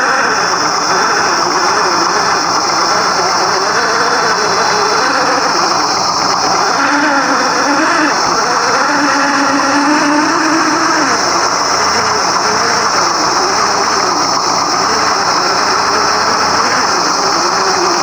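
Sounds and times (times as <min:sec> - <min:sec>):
simulated engine sound: 0:00.0 - 0:18.0
steady high whine: 0:00.0 - 0:18.0.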